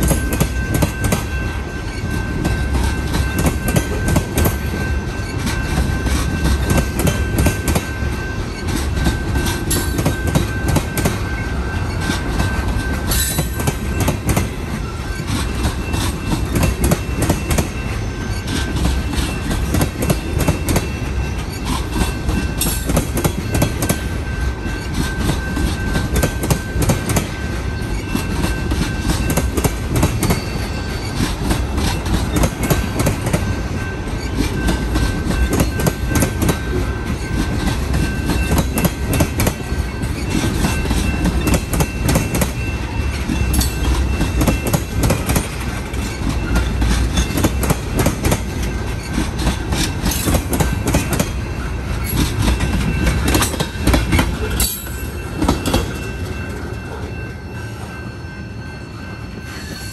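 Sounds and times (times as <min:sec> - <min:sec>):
train wheels clacking over rail joints: 0:00.0 - 0:57.2
train rumble: 0:00.0 - 0:59.9.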